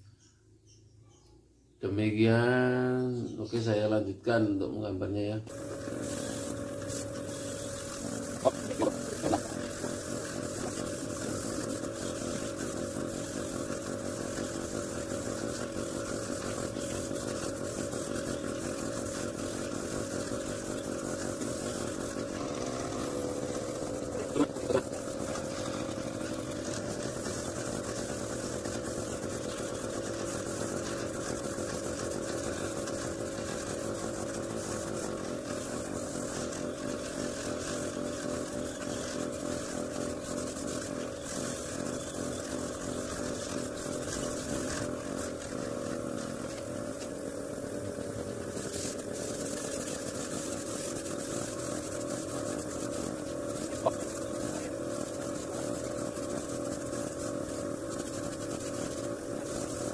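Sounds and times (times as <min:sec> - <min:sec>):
air compressor running: 0:05.5 - 0:59.9
airbrush spraying hiss: 0:05.5 - 0:59.9.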